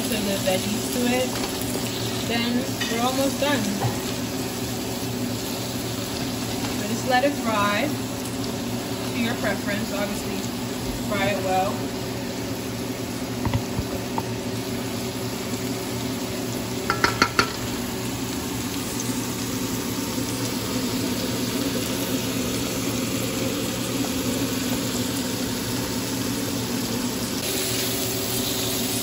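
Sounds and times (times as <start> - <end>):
shrimp sizzling in a frying pan: 0.0 - 29.0.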